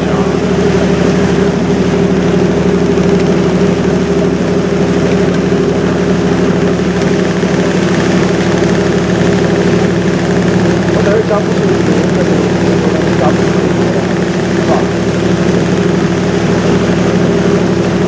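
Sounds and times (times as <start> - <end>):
ship engine droning: 0.0 - 18.0.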